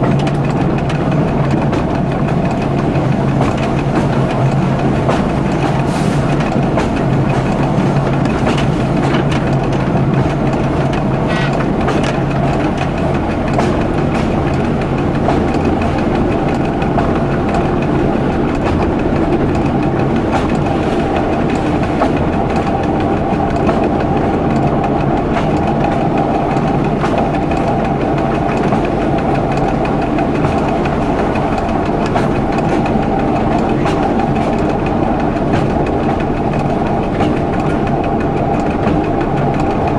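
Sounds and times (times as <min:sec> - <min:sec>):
diesel train engine hum: 0:00.0 - 0:39.9
wheel clatter over rails: 0:00.0 - 0:39.9.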